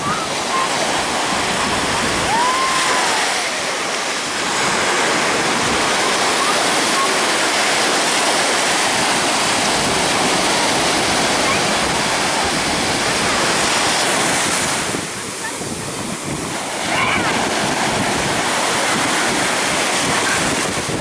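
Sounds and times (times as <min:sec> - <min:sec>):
shallow surf washing: 0:00.0 - 0:21.0.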